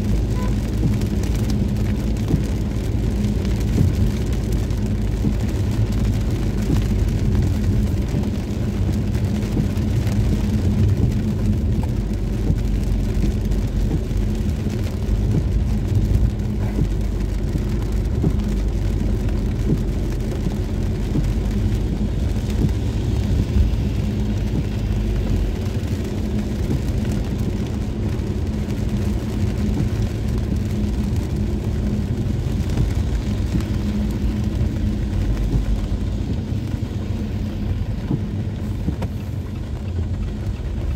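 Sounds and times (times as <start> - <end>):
car engine and tyres rumbling: 0.0 - 40.9
rain and spray hiss: 0.0 - 40.9.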